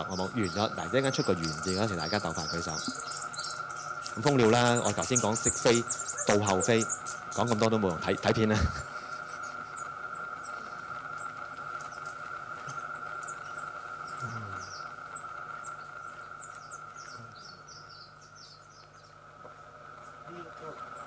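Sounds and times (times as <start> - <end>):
hummingbird chirps and squeaks: 0.0 - 19.1
steady high hum: 0.0 - 21.0.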